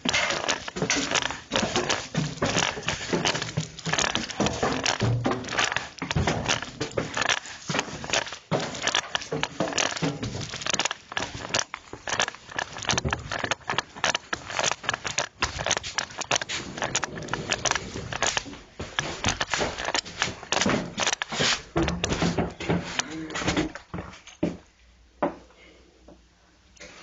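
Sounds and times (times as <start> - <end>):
clothing and gear rustling: 0.0 - 23.0.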